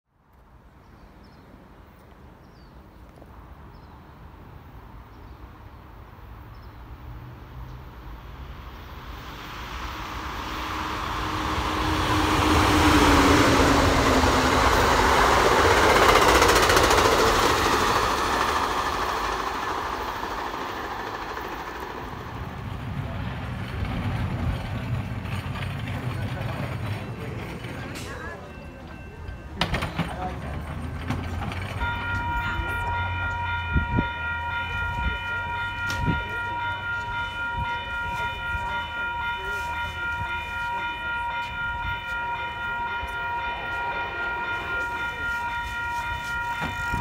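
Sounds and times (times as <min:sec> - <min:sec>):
passenger train passing: 0:00.2 - 0:47.0.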